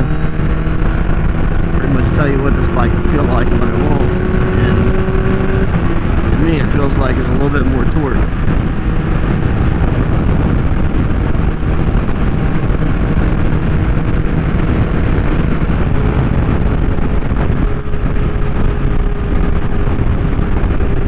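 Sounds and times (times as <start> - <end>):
motorcycle engine running at cruise: 0.0 - 21.0
wind on microphone: 0.0 - 21.0.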